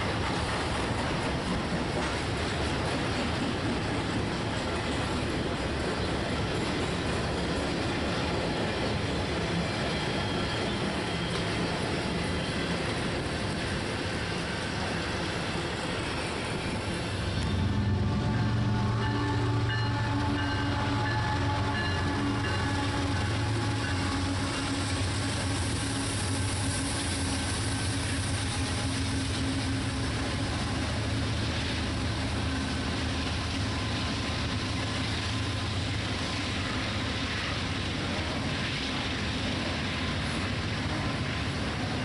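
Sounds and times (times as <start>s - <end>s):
diesel locomotive engine drone: 0.0s - 42.0s
freight cars rumbling on rails: 0.0s - 42.0s.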